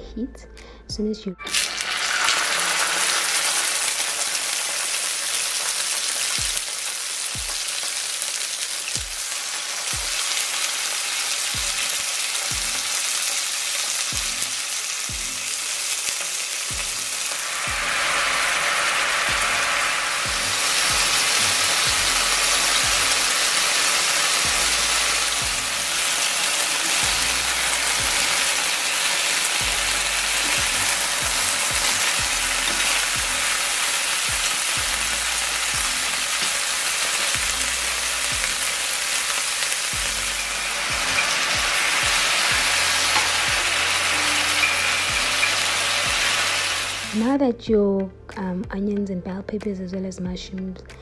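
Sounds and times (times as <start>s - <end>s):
chicken sizzling in frying pan: 1.4s - 47.3s.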